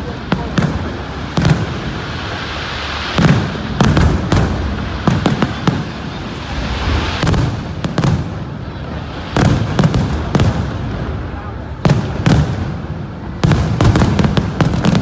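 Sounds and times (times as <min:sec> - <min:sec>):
firework shells booming: 0:00.0 - 0:15.0
steady noisy haze: 0:00.0 - 0:15.0.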